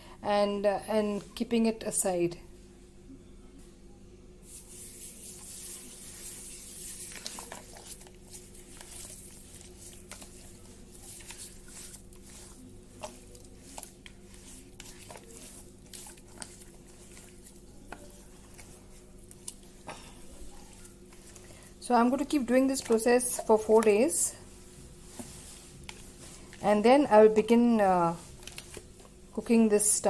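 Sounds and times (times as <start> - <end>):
steady low hum: 0.0 - 30.0
hand rubbing wet meat: 4.4 - 29.2.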